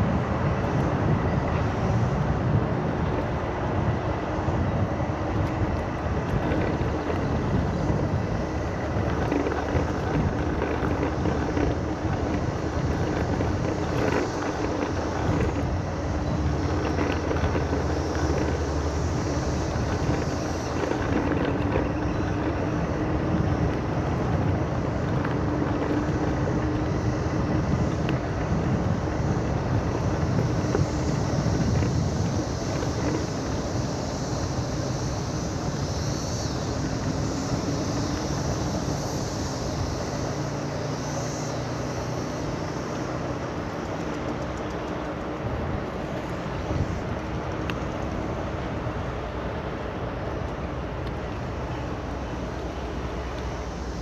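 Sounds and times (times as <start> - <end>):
scooter tyre rumble: 0.0 - 54.0
wind on microphone: 0.0 - 54.0.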